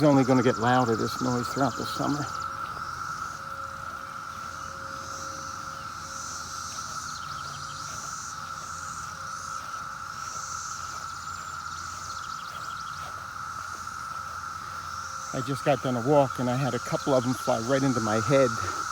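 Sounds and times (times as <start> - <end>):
cicadas buzzing: 0.0 - 18.9.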